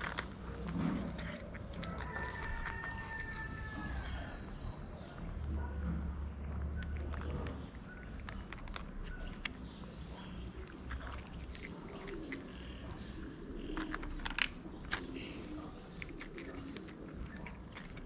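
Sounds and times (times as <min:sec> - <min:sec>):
birds chirping: 0:00.0 - 0:18.0
cat crunching dry kibble: 0:00.0 - 0:18.0.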